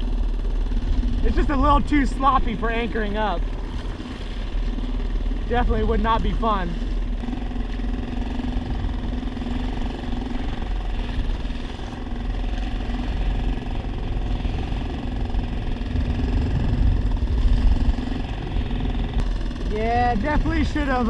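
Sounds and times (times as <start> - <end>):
low rumble: 0.0 - 21.0
outboard motor running: 0.0 - 21.0
wind buffeting microphone: 0.0 - 21.0.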